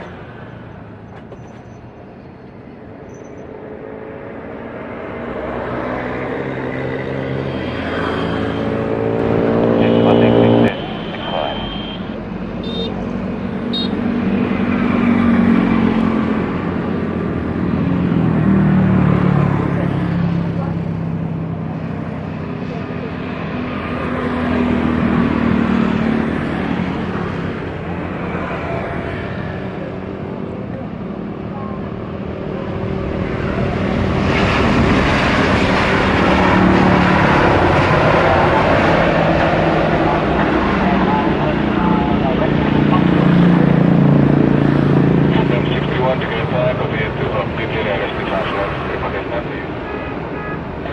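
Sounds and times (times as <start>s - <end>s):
jet airliner engines passing: 0.0s - 50.9s.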